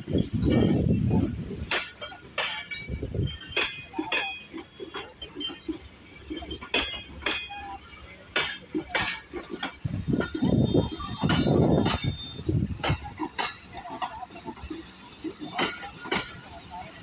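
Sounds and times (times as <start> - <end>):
train rolling rumble: 0.0 - 17.0
train wheels clinking and clanking: 0.0 - 17.0.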